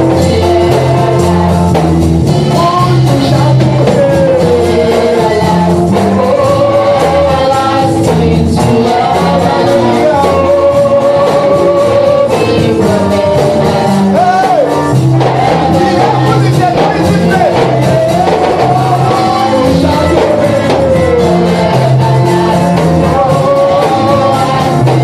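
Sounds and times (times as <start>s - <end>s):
person singing gospel: 0.0s - 25.0s
steady beat and bass line: 0.0s - 25.0s.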